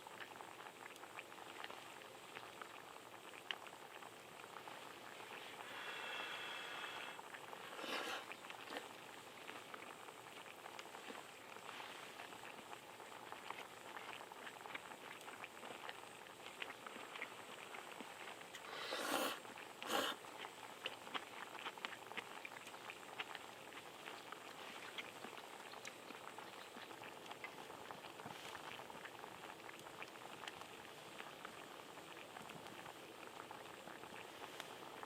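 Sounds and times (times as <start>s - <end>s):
small pops and crackles: 0.0s - 18.8s, 19.4s - 35.0s
broth bubbling at a boil: 0.0s - 35.0s.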